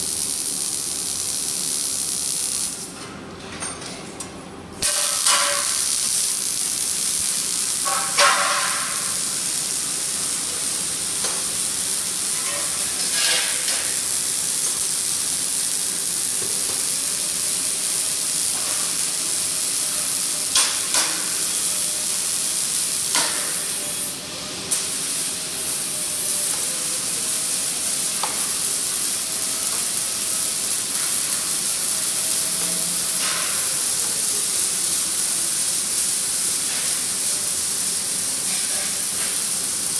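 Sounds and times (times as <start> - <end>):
welding arc sizzling: 0.0 - 3.0, 4.7 - 39.9.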